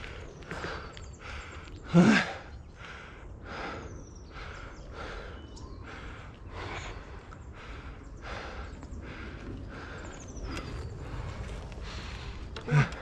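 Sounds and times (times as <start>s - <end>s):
person panting hard: 0.0s - 13.0s.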